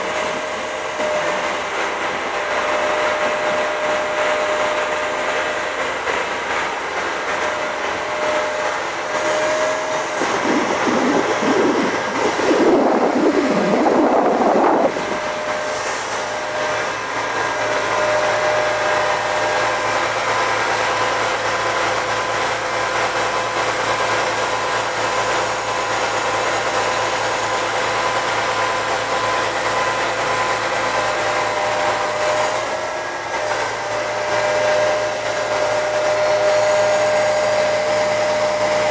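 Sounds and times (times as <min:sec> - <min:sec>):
concrete pump mechanical drone: 0:00.0 - 0:38.9.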